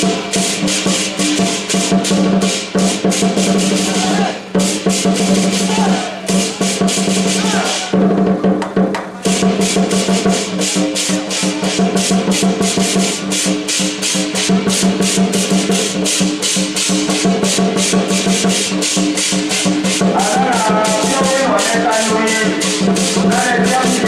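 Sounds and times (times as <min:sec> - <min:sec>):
fast percussion beat: 0:00.0 - 0:24.0.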